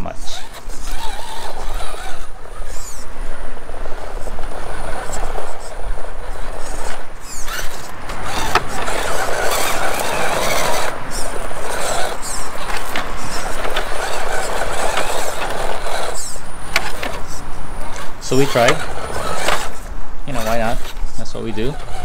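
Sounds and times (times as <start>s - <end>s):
electric motor whining: 0.0s - 22.0s
tires scrabbling on rock: 0.0s - 22.0s.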